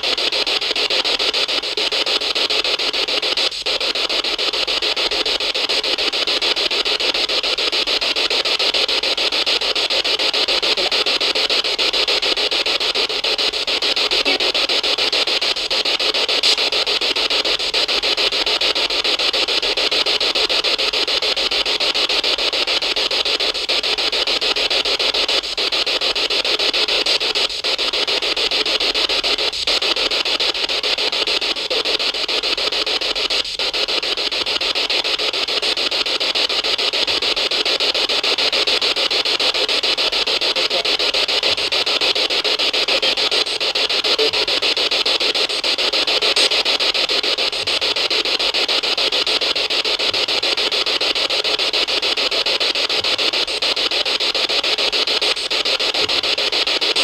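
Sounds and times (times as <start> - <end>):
static hiss: 0.0 - 57.0.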